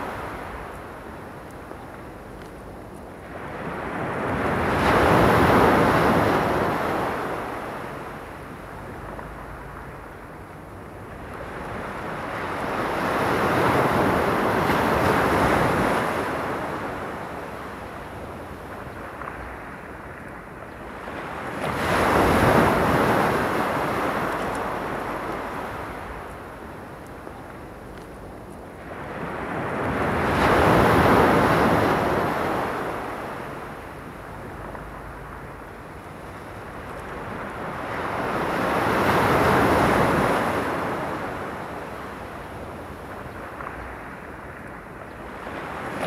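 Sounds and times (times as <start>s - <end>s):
waves breaking on stony beach: 0.0s - 10.2s, 11.0s - 46.0s.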